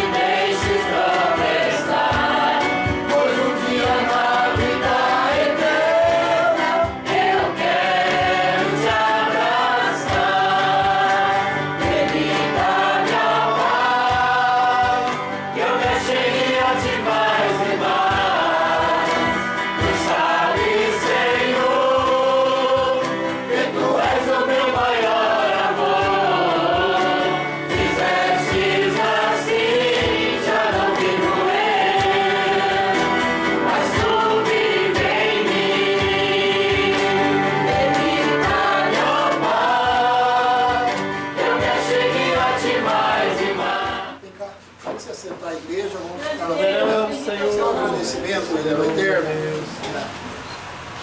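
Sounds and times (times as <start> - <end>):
strummed acoustic guitar: 0.0 - 44.8
voices singing a worship song: 0.0 - 49.8.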